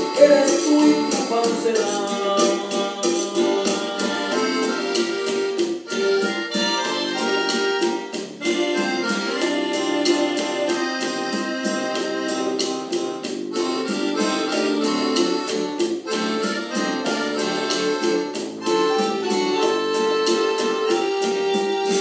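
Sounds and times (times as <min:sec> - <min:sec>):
instrumental song with beat: 0:00.0 - 0:22.0.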